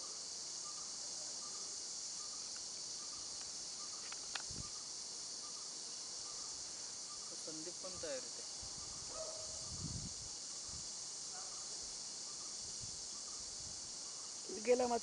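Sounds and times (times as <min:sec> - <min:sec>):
faint chirps: 0:00.0 - 0:14.8
insects droning: 0:00.0 - 0:15.0.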